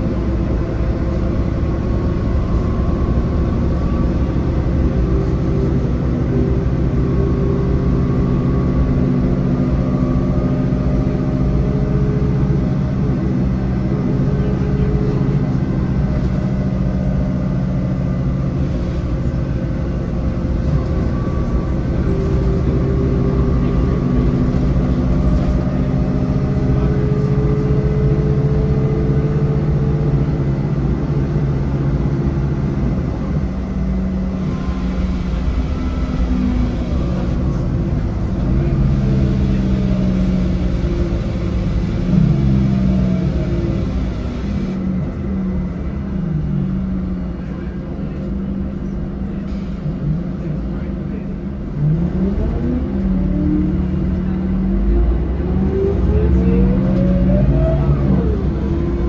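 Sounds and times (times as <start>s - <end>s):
bus engine running: 0.0s - 59.0s
road noise: 0.0s - 59.0s.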